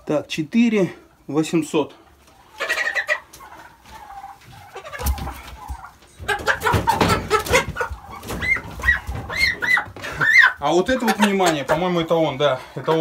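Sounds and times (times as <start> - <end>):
chickens clucking and squawking: 0.0 - 13.0.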